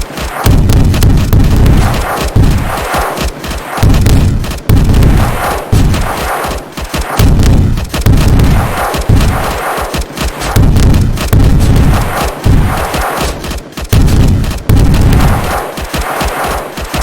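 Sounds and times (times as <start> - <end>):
explosions: 0.0 - 17.0
rifle fire: 0.0 - 17.0.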